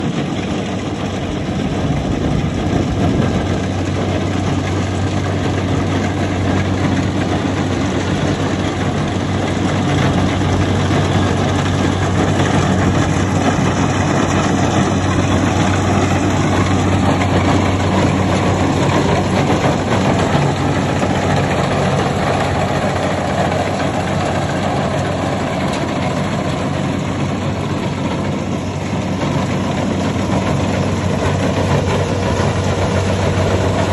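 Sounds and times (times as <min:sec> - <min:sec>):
combine harvester engine running: 0:00.0 - 0:33.9.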